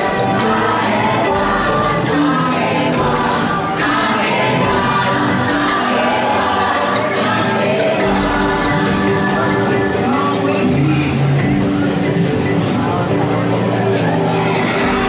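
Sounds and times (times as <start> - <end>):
music with choir-like singing: 0.0 - 15.0.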